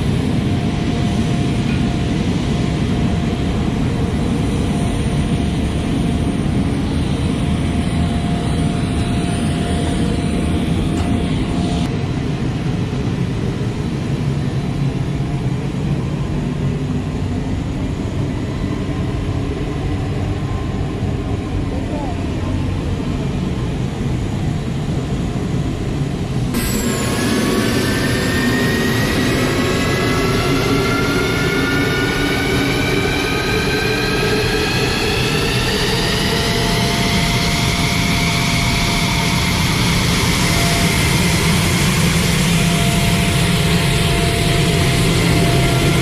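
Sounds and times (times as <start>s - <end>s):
faint engine whine: 0.0s - 46.0s
jet engine roar: 0.0s - 46.0s.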